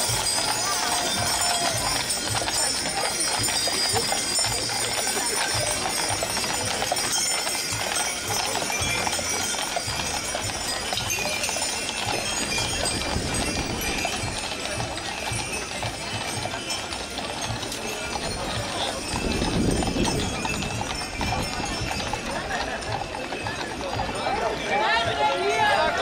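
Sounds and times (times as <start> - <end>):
crowd chatter: 0.0 - 26.0
hooves clip-clopping on asphalt: 0.0 - 26.0.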